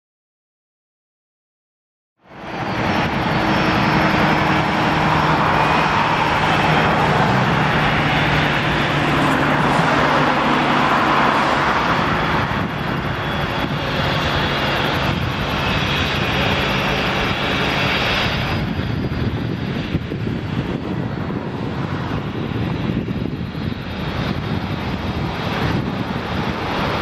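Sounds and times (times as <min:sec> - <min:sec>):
jet engines whining: 0:02.3 - 0:27.0.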